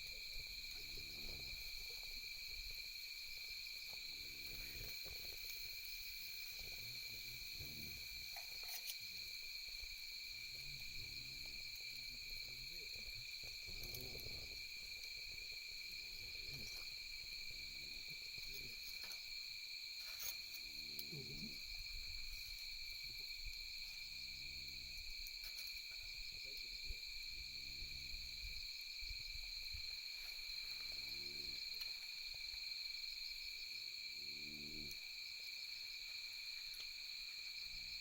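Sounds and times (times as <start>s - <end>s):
night insects chorus: 0.0s - 38.0s.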